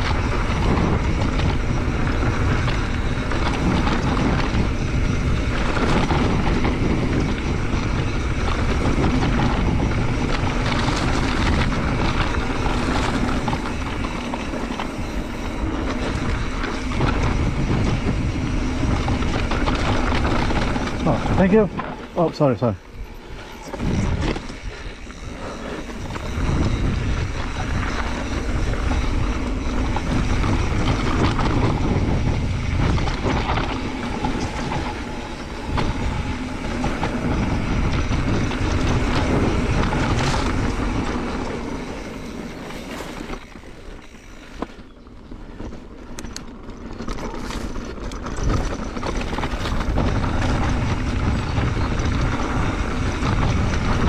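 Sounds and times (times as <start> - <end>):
bike rumbling and rattling: 0.0 - 54.0.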